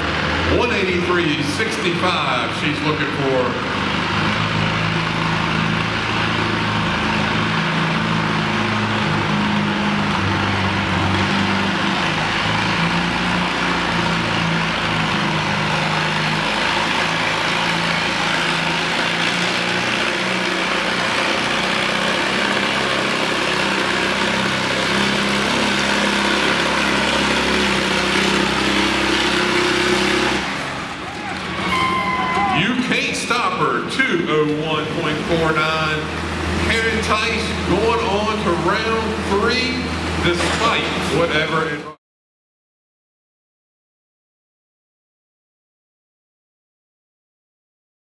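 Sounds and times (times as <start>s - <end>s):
tractor engine running hard: 0.0s - 42.0s.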